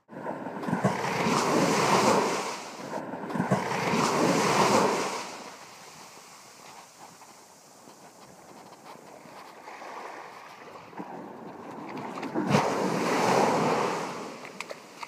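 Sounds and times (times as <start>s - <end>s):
surf waves washing up beach: 0.1s - 15.0s.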